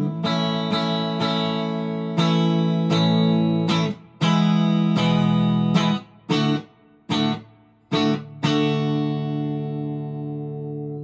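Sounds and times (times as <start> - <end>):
electric guitar strummed chords: 0.0 - 11.0.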